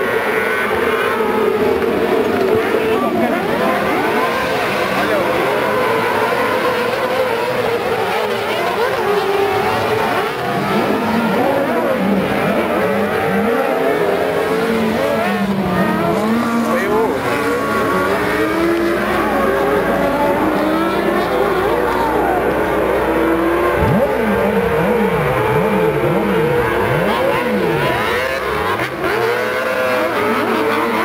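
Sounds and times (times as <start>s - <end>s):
buggy engines revving: 0.0s - 31.0s.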